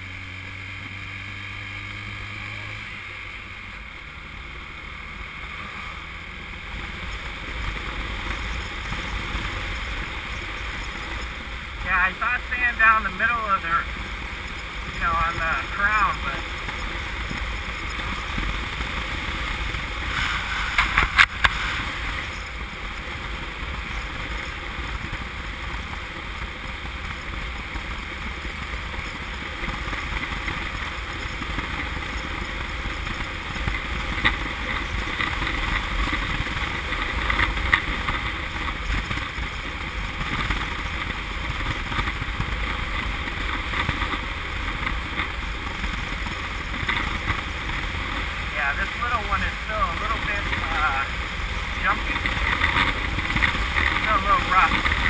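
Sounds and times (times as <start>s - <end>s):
engine popping: 4.6s - 55.0s.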